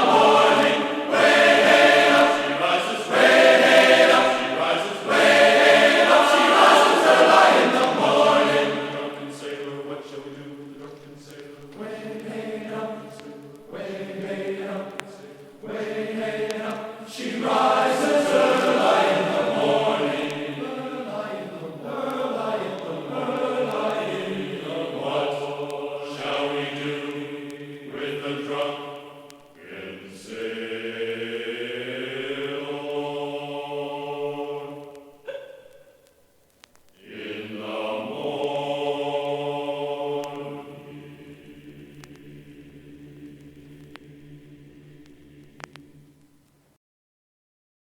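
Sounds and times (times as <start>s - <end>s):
choral singing: 0.0s - 36.1s, 37.0s - 46.5s.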